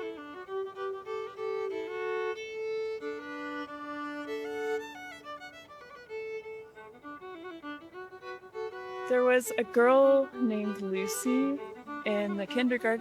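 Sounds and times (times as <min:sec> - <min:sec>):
violin playing slow melody: 0:00.0 - 0:13.0.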